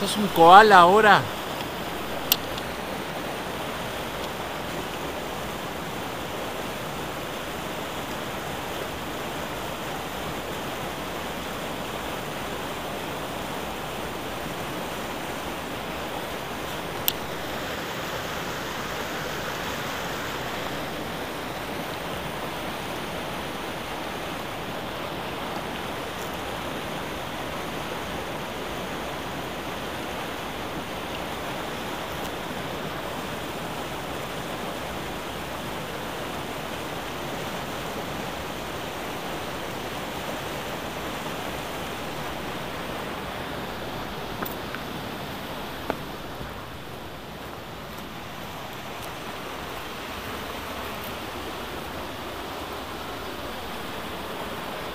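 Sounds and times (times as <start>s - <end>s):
creek rushing over boulders: 0.0s - 54.9s.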